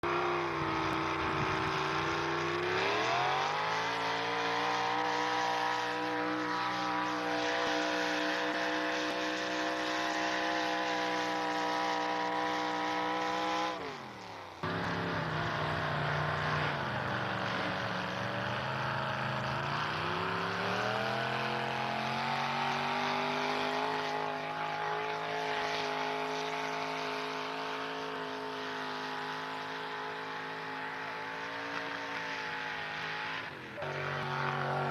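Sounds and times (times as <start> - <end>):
truck engine revving under load: 0.0 - 34.9.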